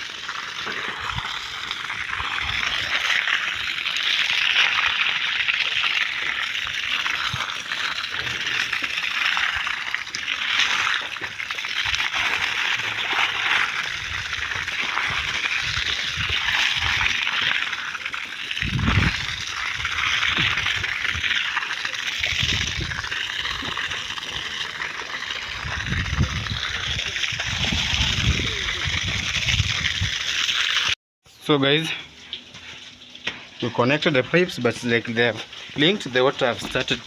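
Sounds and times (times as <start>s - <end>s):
water gushing from hose onto concrete: 0.0s - 37.0s.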